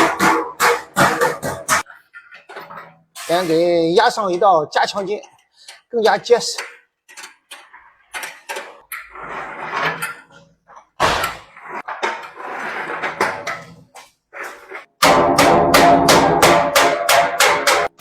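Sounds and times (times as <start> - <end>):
sheet metal knocking and scraping: 0.0 - 3.6, 5.2 - 18.0.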